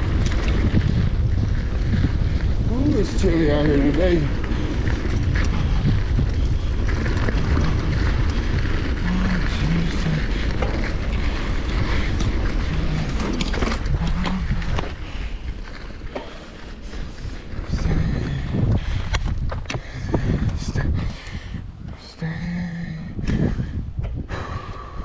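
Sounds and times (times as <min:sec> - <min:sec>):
bike clicks and rattles: 0:00.0 - 0:25.0
bike tyres rolling on dirt: 0:00.0 - 0:25.0
wind buffeting microphone: 0:00.0 - 0:25.0.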